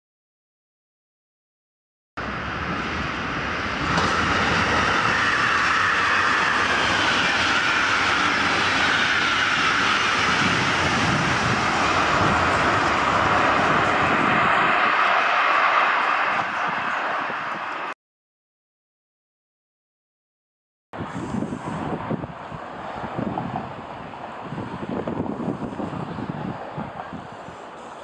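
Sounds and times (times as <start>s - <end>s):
train passing at speed: 2.2s - 18.0s, 21.0s - 28.0s.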